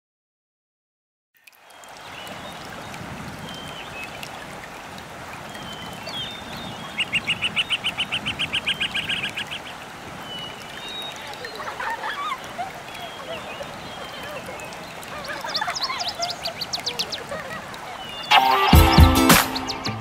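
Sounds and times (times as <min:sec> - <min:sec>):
rapid repeated bird notes: 0:01.6 - 0:20.0
steady outdoor hiss: 0:01.6 - 0:20.0.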